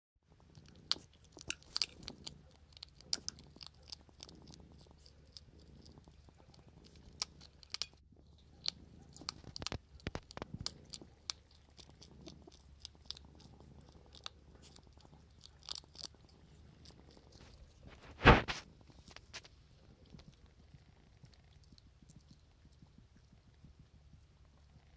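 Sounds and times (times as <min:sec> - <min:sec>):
hedgehog crunching dry kibble: 0:00.3 - 0:24.9.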